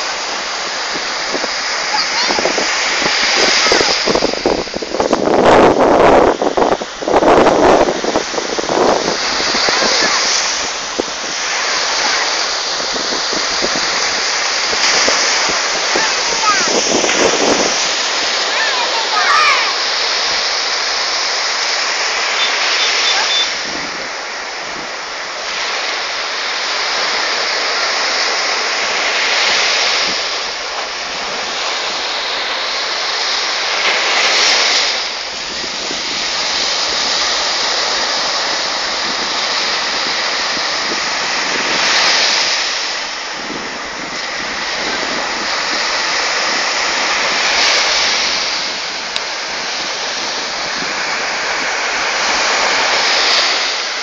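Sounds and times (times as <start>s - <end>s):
sea surf breaking on shore: 0.0s - 54.0s.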